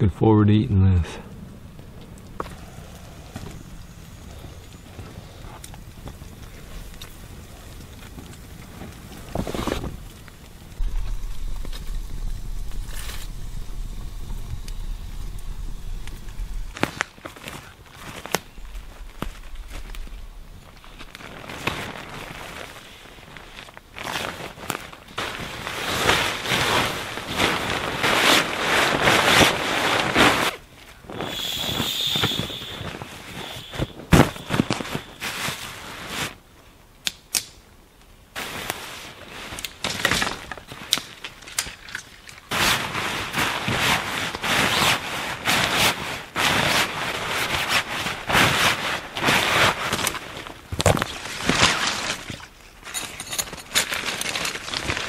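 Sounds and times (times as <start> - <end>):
nylon tent fabric rustling: 6.3 - 36.4, 38.4 - 55.0.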